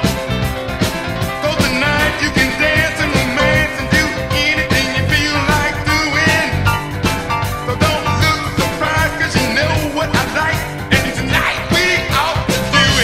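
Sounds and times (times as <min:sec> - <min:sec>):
rock song with singing: 0:00.0 - 0:13.0.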